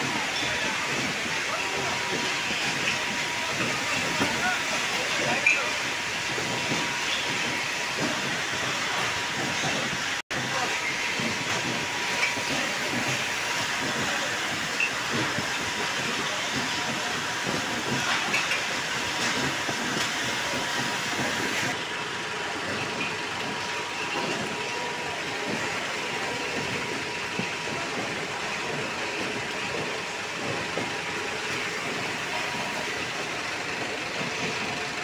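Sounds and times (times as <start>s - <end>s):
packing line mechanical din: 0.0s - 35.0s.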